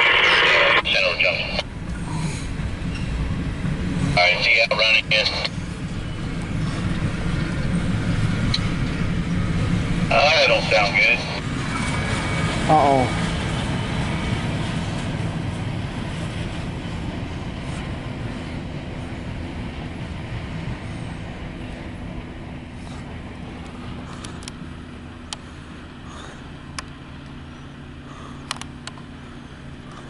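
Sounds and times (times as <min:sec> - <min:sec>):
hopper cars rolling on rails: 0:00.0 - 0:26.0
steady low hum: 0:00.0 - 0:30.0.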